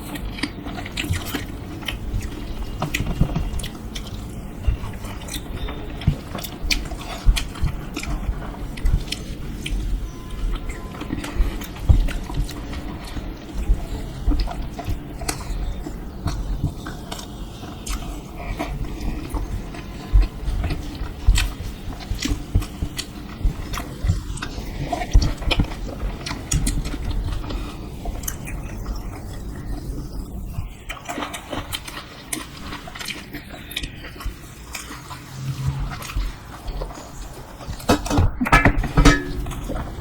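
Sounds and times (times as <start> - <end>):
chewing crisp food: 0.0 - 38.0.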